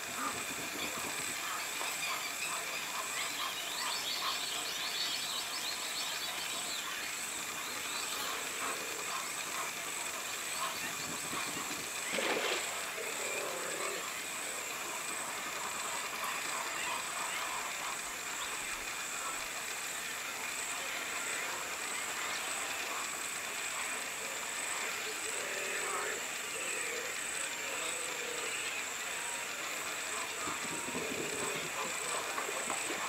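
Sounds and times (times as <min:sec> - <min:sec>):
steady high hiss: 0:00.0 - 0:33.0.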